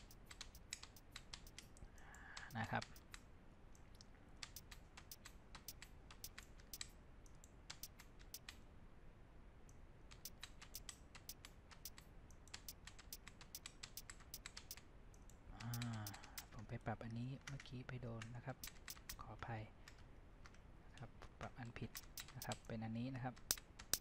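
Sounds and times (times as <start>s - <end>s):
computer keyboard and mouse clicking: 0.0s - 8.6s, 9.7s - 16.6s, 17.4s - 20.6s, 21.2s - 22.7s, 23.3s - 24.0s.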